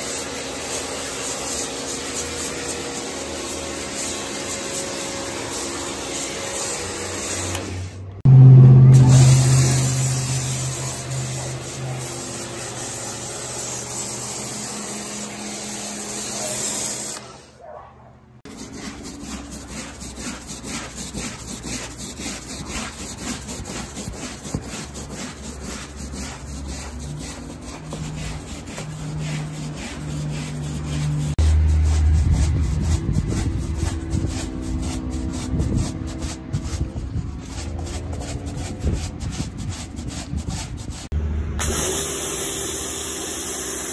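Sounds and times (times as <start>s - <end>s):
pressure washer spraying: 0.0s - 8.0s, 8.9s - 17.5s, 18.5s - 36.8s, 37.4s - 43.9s
broom scrubbing floor mat: 0.0s - 8.1s, 8.9s - 17.6s, 18.4s - 41.2s.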